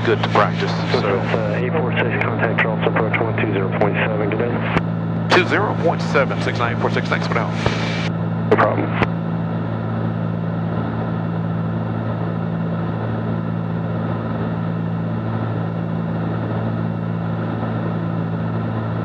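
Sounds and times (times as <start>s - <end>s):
propeller plane engines droning: 0.0s - 19.0s.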